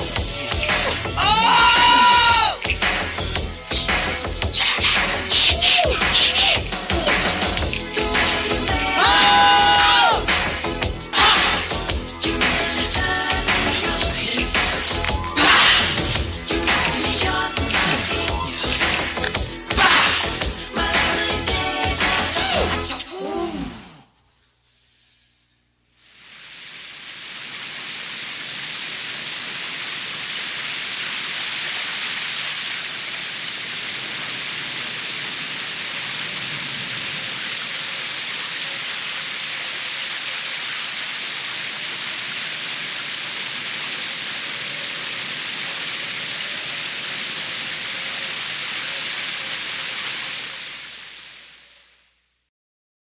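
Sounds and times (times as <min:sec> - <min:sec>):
steady hiss of noise: 0:00.0 - 0:52.5.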